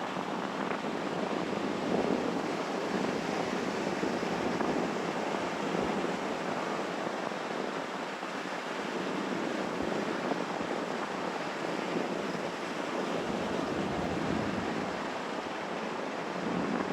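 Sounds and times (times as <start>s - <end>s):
sea surf rushing: 0.0s - 16.9s
wind: 0.0s - 16.9s.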